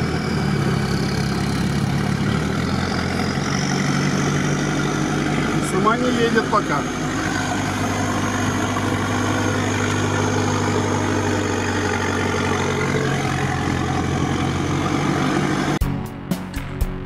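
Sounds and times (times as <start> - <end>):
truck engine running at low revs: 0.0 - 17.0.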